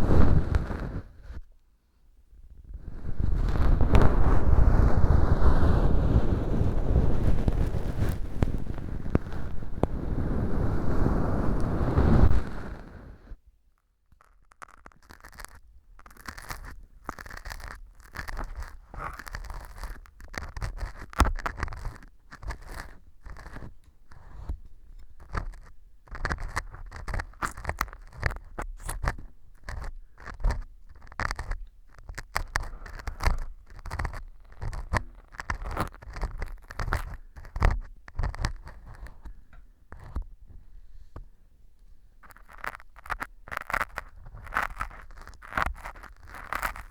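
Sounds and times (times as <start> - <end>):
ear pick scraping: 0.0 - 1.5, 3.1 - 13.4, 14.1 - 41.3, 42.2 - 46.9.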